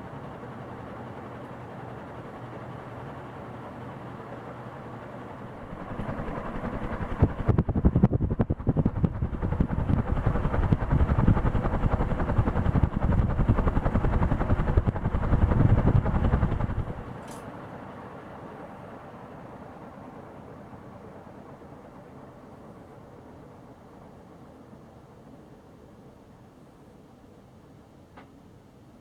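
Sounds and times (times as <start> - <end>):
ceiling fan rushing and fluttering: 0.0 - 29.0.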